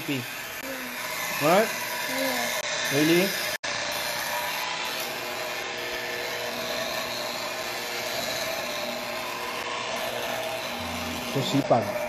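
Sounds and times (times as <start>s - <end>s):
electric hand mixer whirring: 0.0s - 12.0s.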